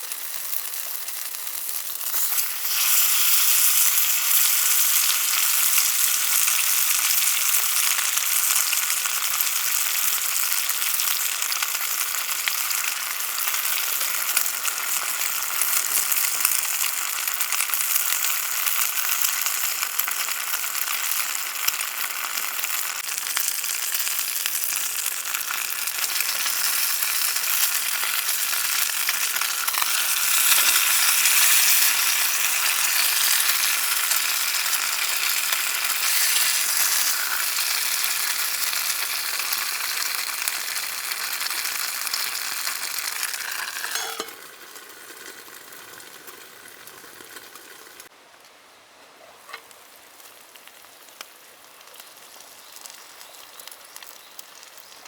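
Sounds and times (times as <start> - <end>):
food sizzling over campfire: 0.0 - 48.2, 49.2 - 55.0.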